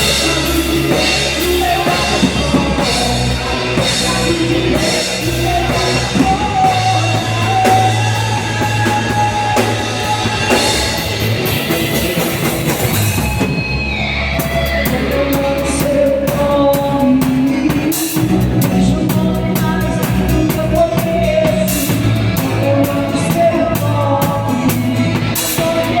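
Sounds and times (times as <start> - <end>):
rock gospel band with singing: 0.0 - 26.0.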